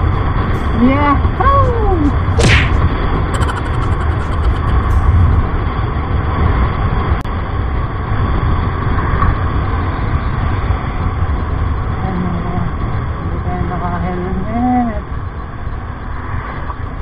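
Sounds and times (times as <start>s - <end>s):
wind rush on microphone: 0.0s - 17.0s.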